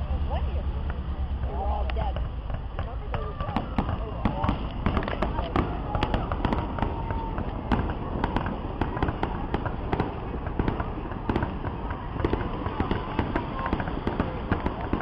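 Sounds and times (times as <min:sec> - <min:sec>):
fireworks bangs and pops: 0:00.8 - 0:15.0.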